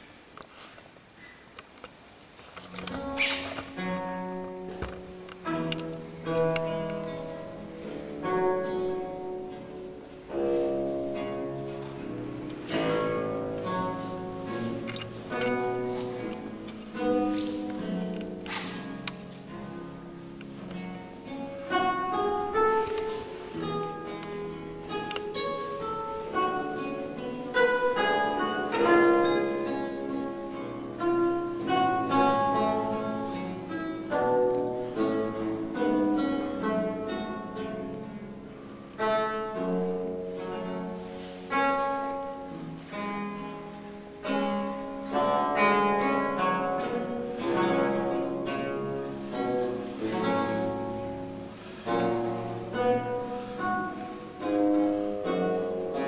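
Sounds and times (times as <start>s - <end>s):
plucked theorbo notes and chords: 2.7s - 56.0s.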